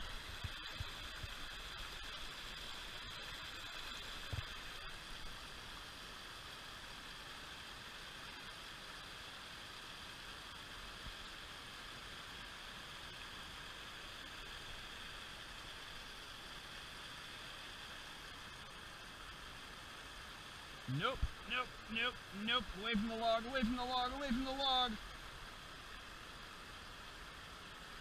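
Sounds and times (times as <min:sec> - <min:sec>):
creek running over stones: 0:00.0 - 0:28.0.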